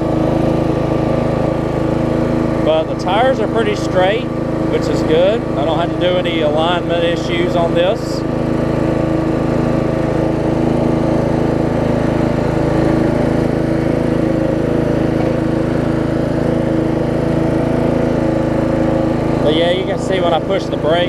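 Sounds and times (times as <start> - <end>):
riding mower engine running: 0.0 - 21.0.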